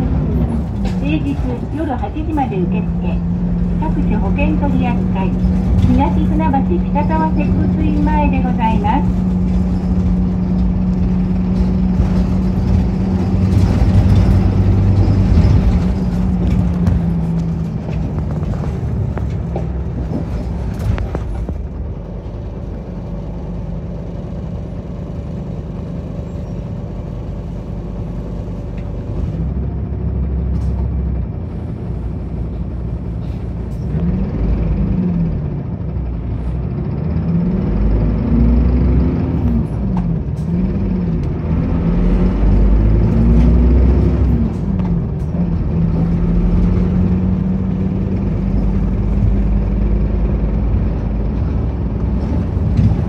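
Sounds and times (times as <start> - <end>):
bus engine: 0.0 - 53.0
road noise: 0.0 - 53.0.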